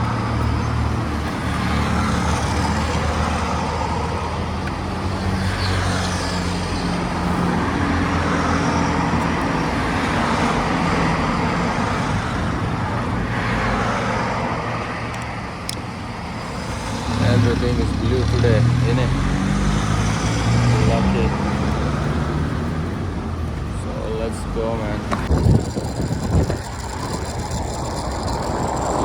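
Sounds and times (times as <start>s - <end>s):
small motorbike engine running: 0.0s - 12.8s, 16.4s - 29.0s
wind and road noise: 0.0s - 29.0s.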